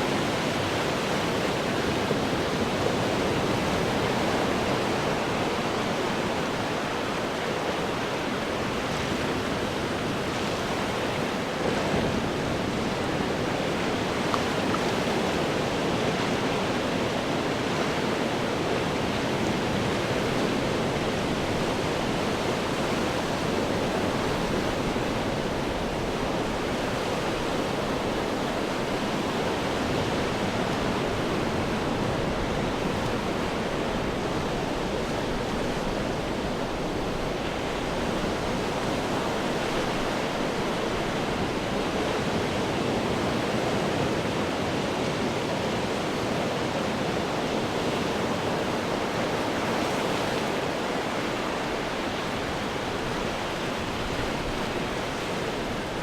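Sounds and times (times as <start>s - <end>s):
ocean waves on rocks: 0.0s - 56.0s.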